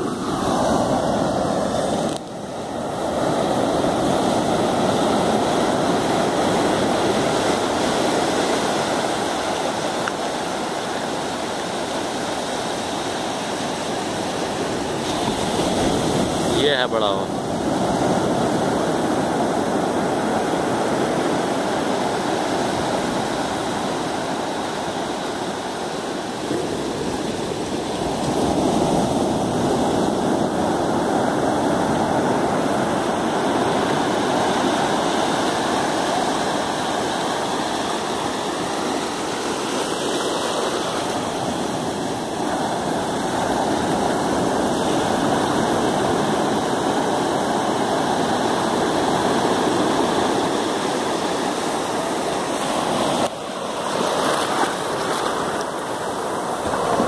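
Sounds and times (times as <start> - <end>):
surf breaking on sand: 0.0 - 57.0.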